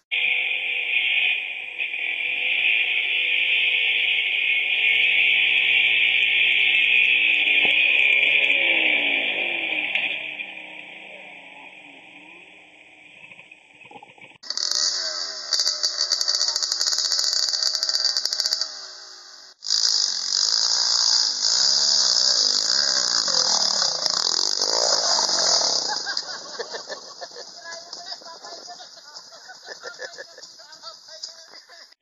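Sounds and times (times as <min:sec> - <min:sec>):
dirt bike engine revving: 0:00.0 - 0:30.7.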